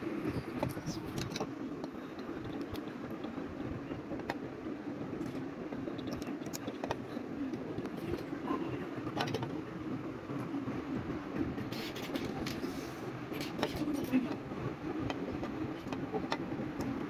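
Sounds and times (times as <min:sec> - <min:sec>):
steady low background hum: 0:00.0 - 0:17.0.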